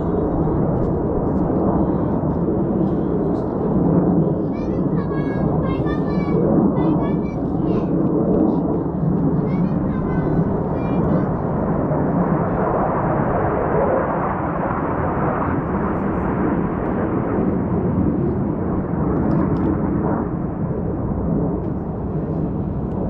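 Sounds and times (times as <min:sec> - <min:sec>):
jet aircraft roar: 0:00.0 - 0:23.0.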